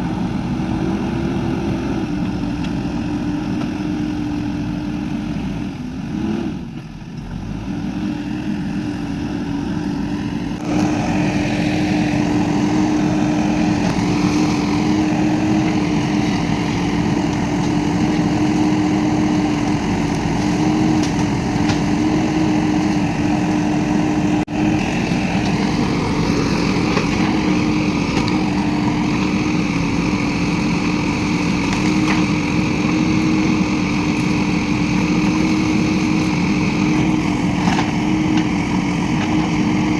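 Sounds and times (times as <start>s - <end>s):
engine humming under load: 0.0s - 39.9s.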